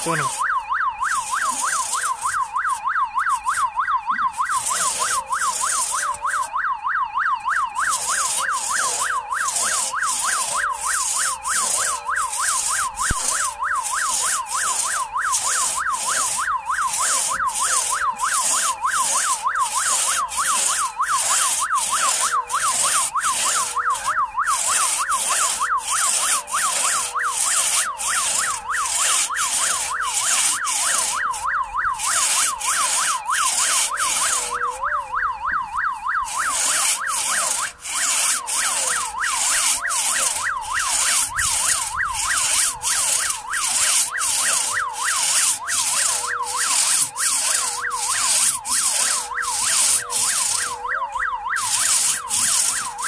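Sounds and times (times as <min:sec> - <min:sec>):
hand saw rasping through log: 0:00.0 - 0:06.8, 0:07.4 - 0:53.0
warbling siren-like tone: 0:00.0 - 0:53.0.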